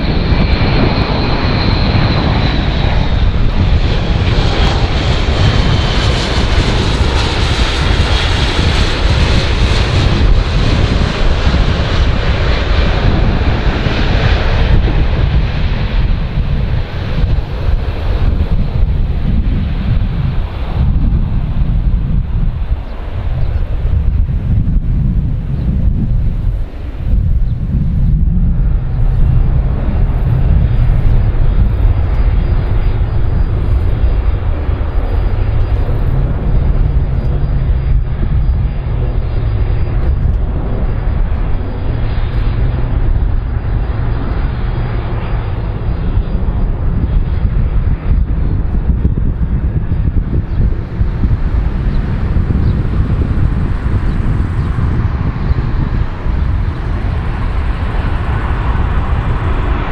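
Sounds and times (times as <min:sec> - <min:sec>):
aircraft engines rumbling: 0:00.0 - 0:59.9
high engine whine: 0:00.0 - 0:59.9.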